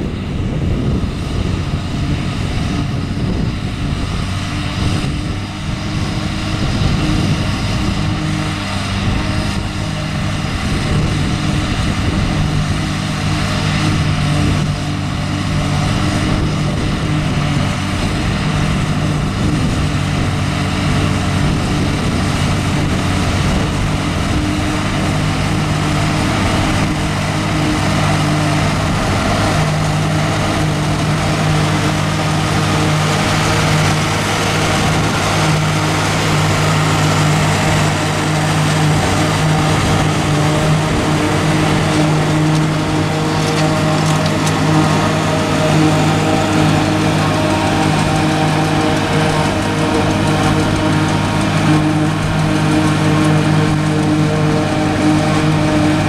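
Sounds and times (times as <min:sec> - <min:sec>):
forage harvester droning: 0:00.0 - 0:56.0
tractor engine under load: 0:00.0 - 0:56.0.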